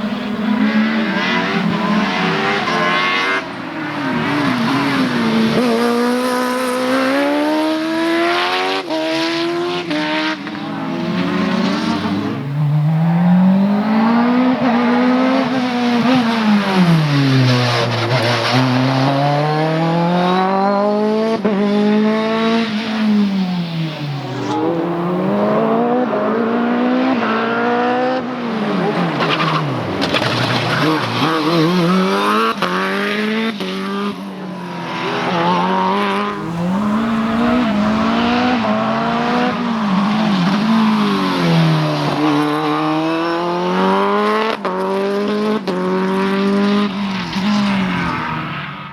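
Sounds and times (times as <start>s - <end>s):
race car engine at high revs: 0.0s - 48.9s.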